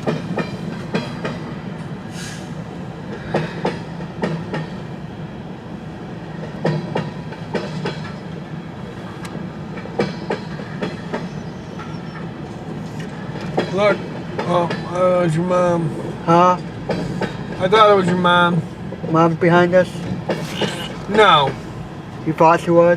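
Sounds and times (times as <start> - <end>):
train wheels clacking on rail joints: 0.0 - 5.0, 6.2 - 8.6, 9.2 - 22.5
low train rumble: 0.0 - 22.9.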